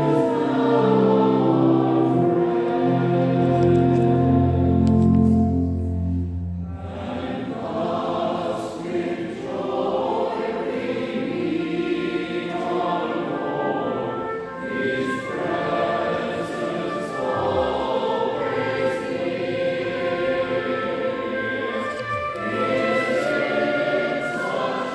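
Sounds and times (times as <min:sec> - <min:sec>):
choir singing: 0:00.0 - 0:24.9.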